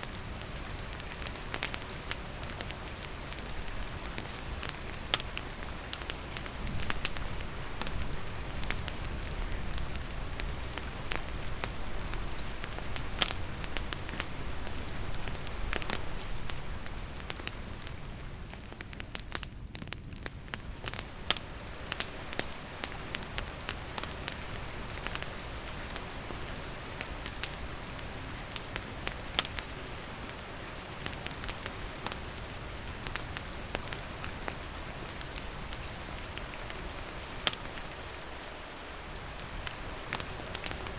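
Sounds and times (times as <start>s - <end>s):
campfire crackling and popping: 0.0s - 40.9s
steady rain pattering: 0.0s - 40.9s.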